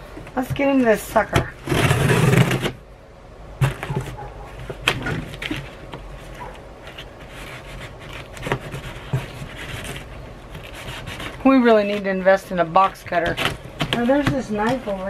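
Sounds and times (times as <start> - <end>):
tape and cardboard tearing: 0.4 - 2.8, 3.6 - 15.0.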